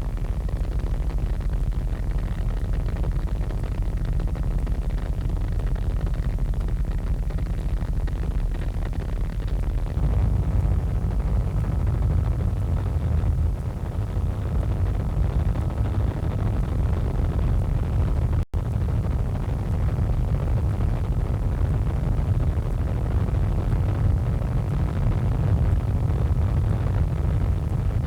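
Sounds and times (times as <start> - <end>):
helicopter cabin rumble: 3.6 - 28.0.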